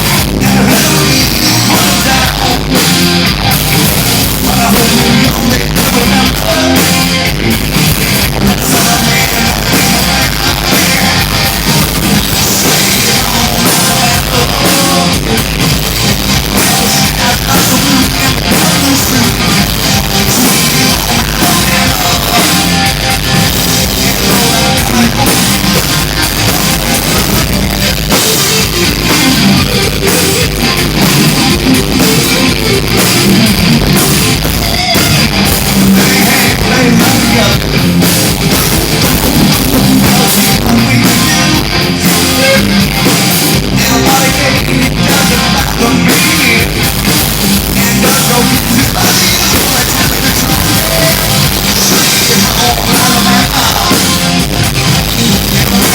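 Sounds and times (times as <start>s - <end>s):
drum kit: 0.0s - 55.9s
electric guitar: 0.0s - 55.9s
live rock band playing loud: 0.0s - 55.9s.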